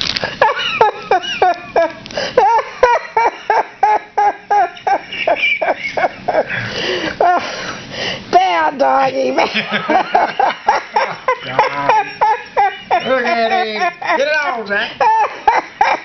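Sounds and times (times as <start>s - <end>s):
person laughing hard: 0.2s - 7.7s, 9.4s - 16.0s.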